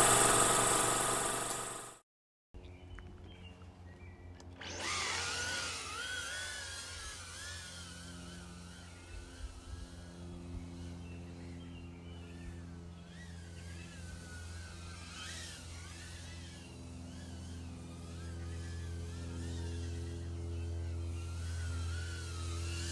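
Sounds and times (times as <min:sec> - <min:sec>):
tiny drone motors whining: 0:00.0 - 0:02.0, 0:04.4 - 0:11.6, 0:12.2 - 0:22.9.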